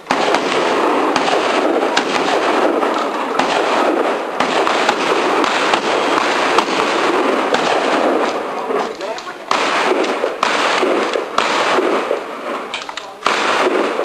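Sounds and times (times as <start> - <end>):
constant harsh noise: 0.0 - 14.0
shotgun shots: 0.0 - 14.0.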